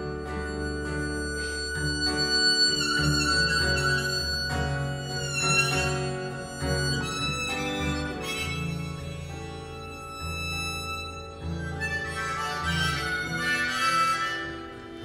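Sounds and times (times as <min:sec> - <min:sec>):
harmonica solo: 0:00.0 - 0:15.0
sustained backing chords: 0:00.0 - 0:15.0.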